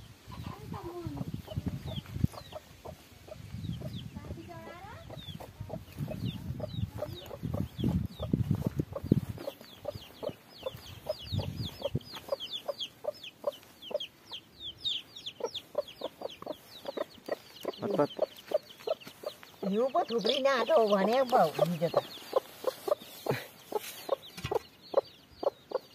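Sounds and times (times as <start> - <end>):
chicks peeping: 0.0 - 25.9
hen clucking: 0.3 - 25.9.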